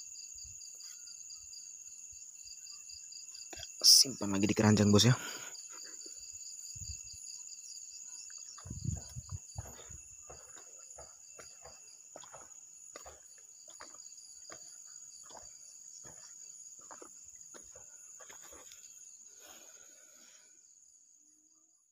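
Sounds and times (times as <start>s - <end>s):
night insects chirring: 0.0s - 21.9s.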